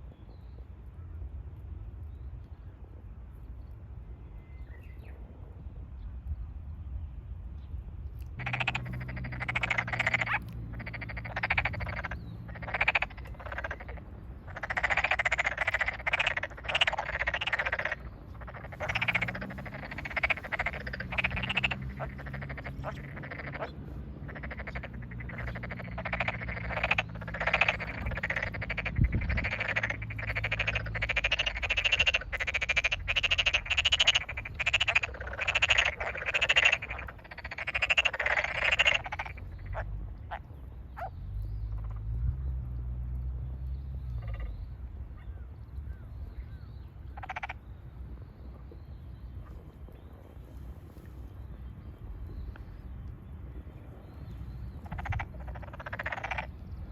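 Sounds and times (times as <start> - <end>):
frogs croaking in chorus: 8.4 - 49.6, 50.5 - 56.9.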